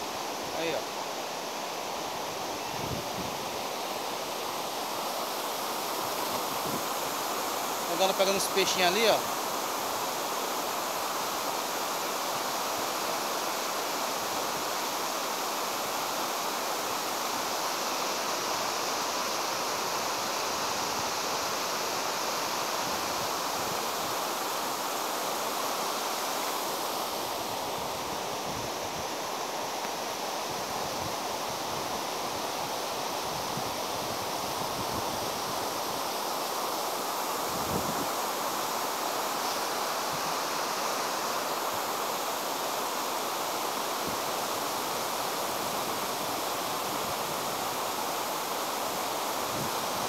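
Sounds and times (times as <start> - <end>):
river rushing over rapids: 0.0 - 50.0.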